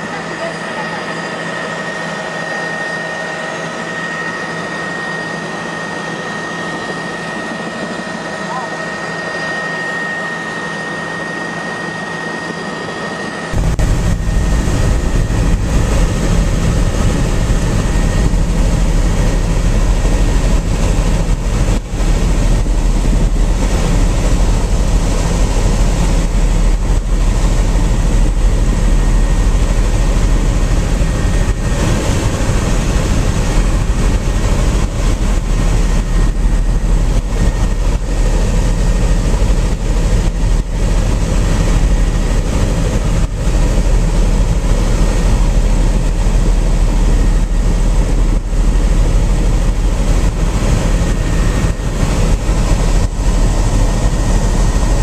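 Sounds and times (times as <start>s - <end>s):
helicopter engine and rotor rumble: 0.0s - 55.0s
helicopter turbine whine: 0.0s - 55.0s.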